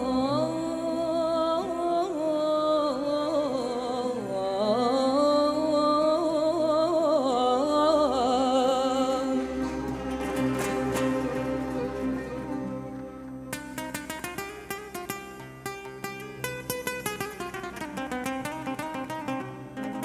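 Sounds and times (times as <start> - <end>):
violin oud and accordion ensemble: 0.0 - 20.0.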